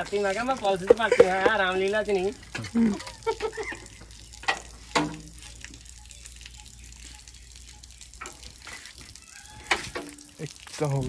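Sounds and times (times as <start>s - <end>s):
water gushing from tyre valve: 0.0s - 11.0s.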